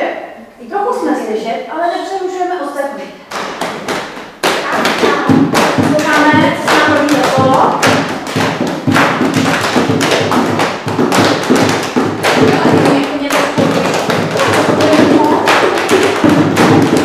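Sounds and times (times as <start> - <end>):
body percussion thumps and taps: 3.3 - 17.0.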